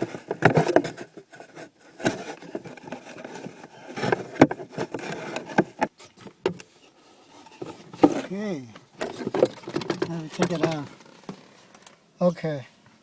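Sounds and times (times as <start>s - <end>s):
plastic scraping and rubbing: 0.0s - 6.7s, 7.3s - 11.6s.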